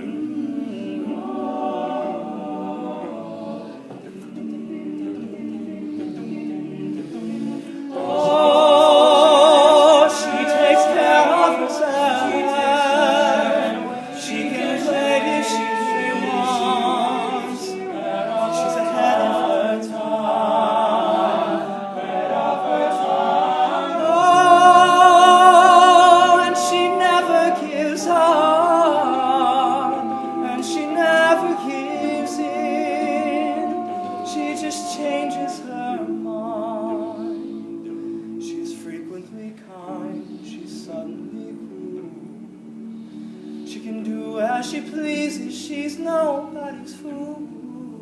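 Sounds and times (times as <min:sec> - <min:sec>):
male group singing harmonies: 0:00.0 - 0:48.0.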